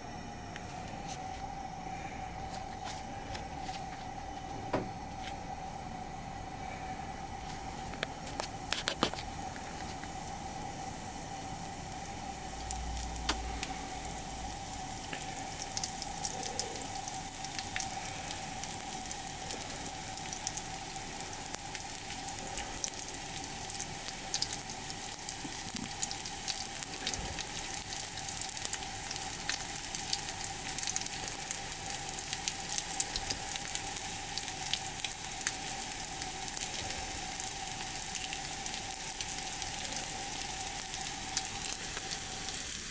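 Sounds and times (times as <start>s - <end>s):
steady hum: 0.0s - 42.9s
oil sizzling and crackling: 7.4s - 42.9s.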